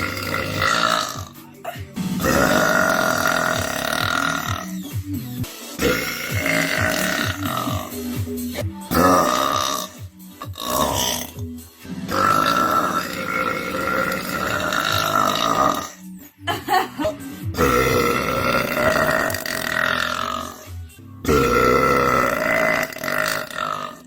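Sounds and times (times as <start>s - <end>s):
woman belching: 0.0s - 4.8s, 5.8s - 8.0s, 8.9s - 11.4s, 12.1s - 16.6s, 17.6s - 20.7s, 21.3s - 24.0s.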